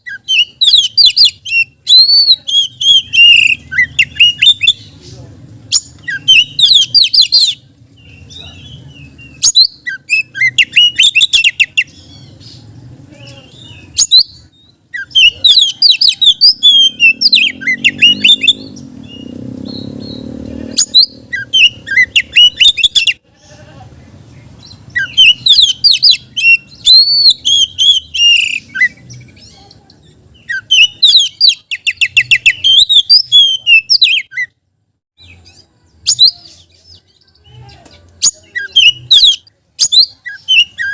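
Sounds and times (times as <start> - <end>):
bird singing whistles and trills: 0.0 - 4.8, 5.7 - 12.6, 13.4 - 23.2, 24.6 - 29.6, 30.4 - 34.6, 35.2 - 37.4, 38.2 - 40.9.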